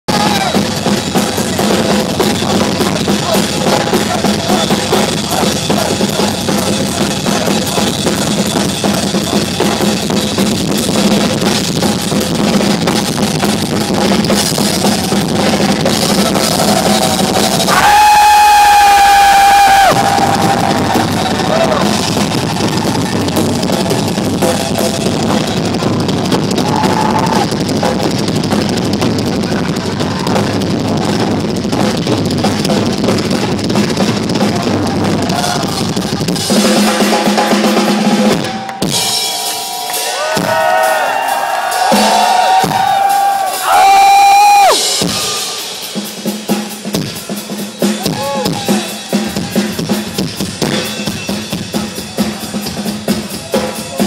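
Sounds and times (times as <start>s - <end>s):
rock drum solo: 0.1s - 54.0s.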